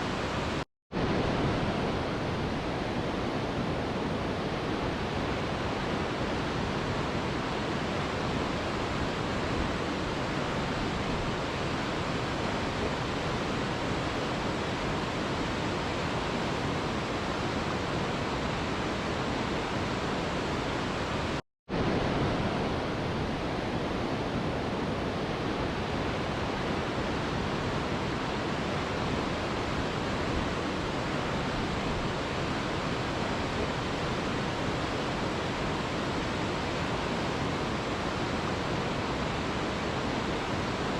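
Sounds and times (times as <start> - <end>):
mountain river rushing: 0.0 - 40.9.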